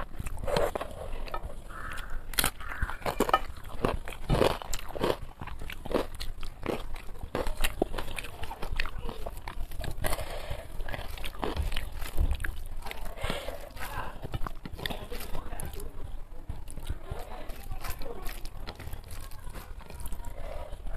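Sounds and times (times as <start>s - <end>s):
fingers working rice on plate: 0.0s - 20.9s
person chewing with wet smacks: 0.0s - 20.9s.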